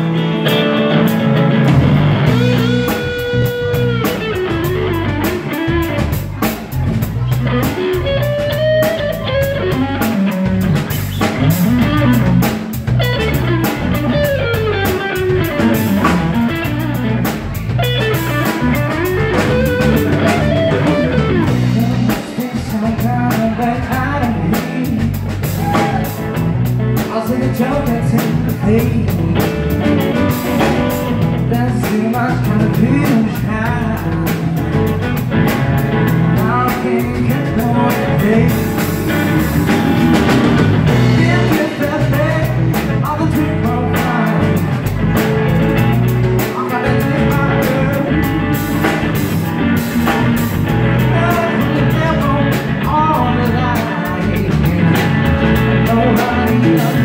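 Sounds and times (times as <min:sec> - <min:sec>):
drum kit: 0:00.0 - 0:57.0
electric bass: 0:00.0 - 0:57.0
electric guitar lead lines: 0:00.0 - 0:57.0.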